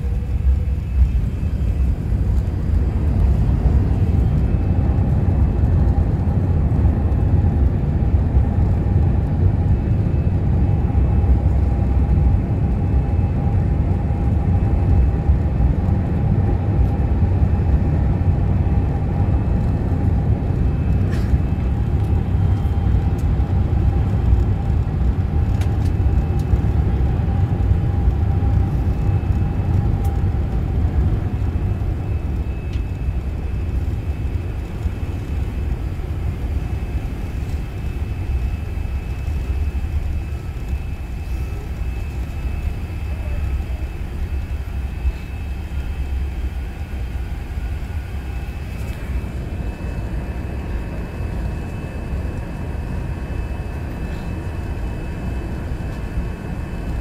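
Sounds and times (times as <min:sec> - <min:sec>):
faint steady whine: 0:00.0 - 0:57.0
loud low cabin rumble: 0:00.0 - 0:57.0.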